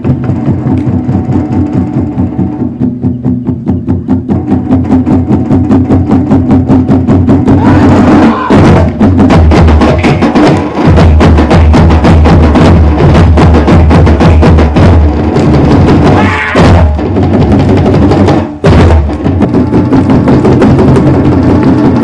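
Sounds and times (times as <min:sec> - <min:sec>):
rapid drum strokes: 0:00.0 - 0:22.0.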